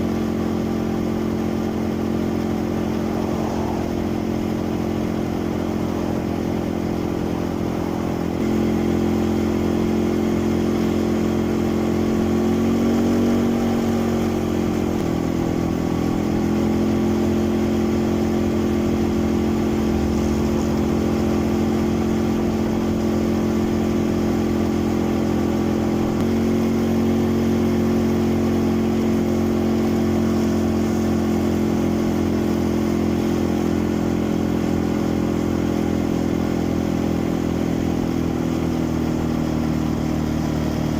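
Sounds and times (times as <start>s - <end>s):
quad bike engine running: 0.0s - 40.9s.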